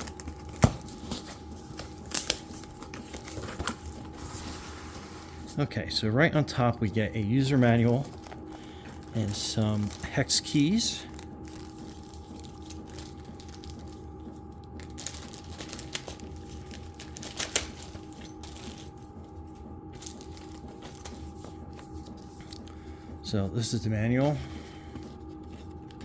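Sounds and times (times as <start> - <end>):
packaging rustling: 0.0 - 5.6, 6.8 - 19.4, 20.0 - 22.8.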